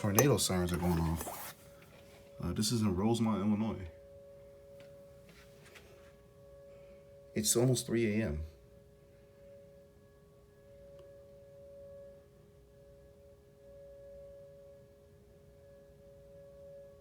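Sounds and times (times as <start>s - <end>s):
distant warning siren: 0.0s - 17.0s.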